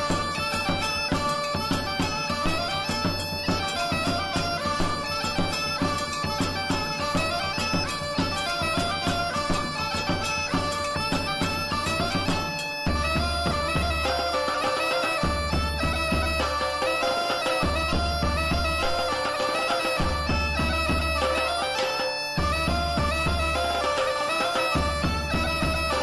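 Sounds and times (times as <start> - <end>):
bagpipe music: 0.0 - 26.0.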